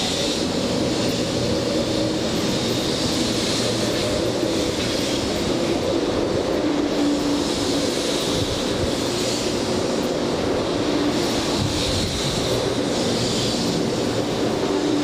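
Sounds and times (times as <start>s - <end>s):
train motor hum: 0.0s - 15.0s
train wheels rumbling: 0.0s - 15.0s.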